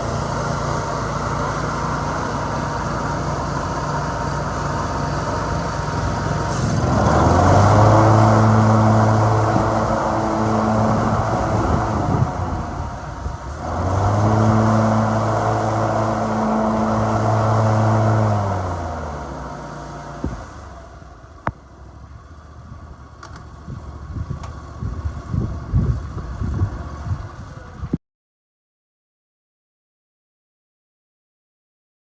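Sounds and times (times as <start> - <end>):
mower engine running: 0.0 - 27.9.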